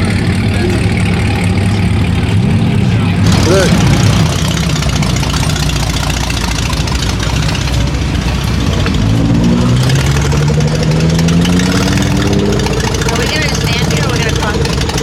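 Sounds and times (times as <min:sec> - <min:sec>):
car engines rumbling: 0:00.0 - 0:15.0
engine revving up: 0:00.0 - 0:15.0.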